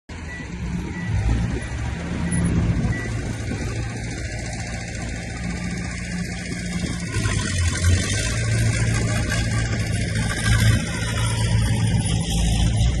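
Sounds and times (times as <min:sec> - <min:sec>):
heavy machinery diesel engine drone: 0:00.1 - 0:13.0.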